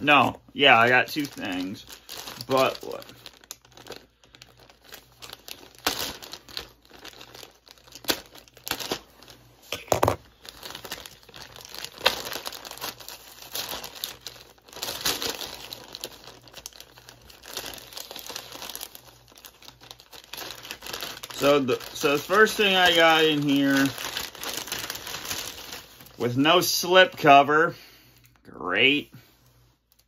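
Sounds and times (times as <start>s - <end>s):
packaging crinkling and rustling: 0.0s - 27.6s, 29.7s - 30.0s
packaging tearing: 0.6s - 26.7s.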